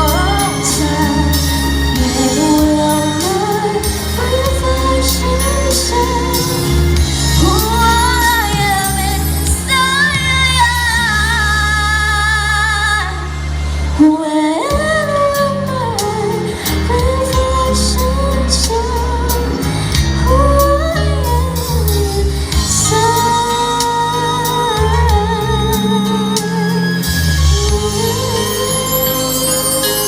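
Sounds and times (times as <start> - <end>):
woman singing a ballad: 0.0 - 30.0.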